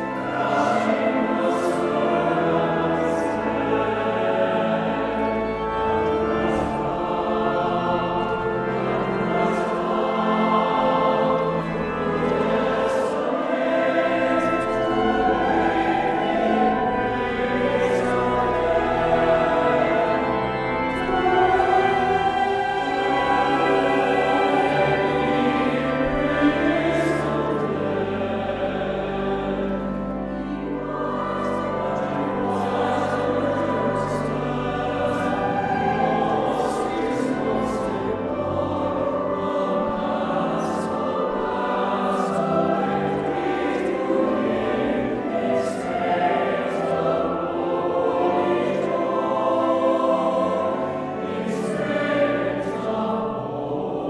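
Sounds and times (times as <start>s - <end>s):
mixed choir singing: 0.0s - 54.0s
pipe organ: 0.0s - 54.0s.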